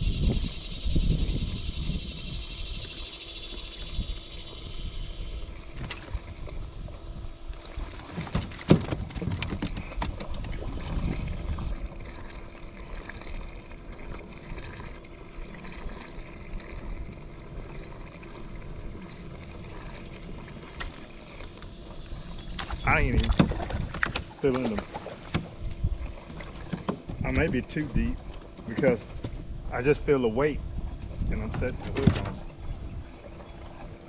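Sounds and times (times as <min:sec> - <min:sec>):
water trickling and lapping: 0:00.0 - 0:34.0.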